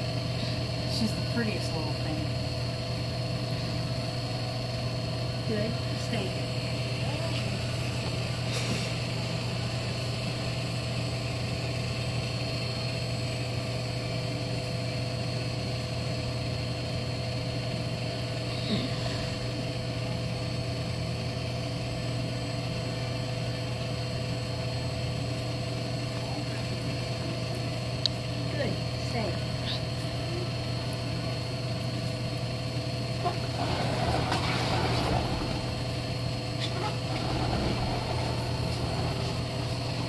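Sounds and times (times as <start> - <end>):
low mechanical hum: 0.0 - 40.0.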